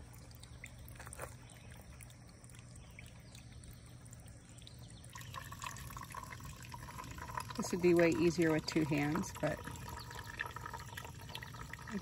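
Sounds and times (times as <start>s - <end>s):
stream trickling into a bag: 0.0s - 12.0s
water streaming into a bottle: 0.0s - 12.0s.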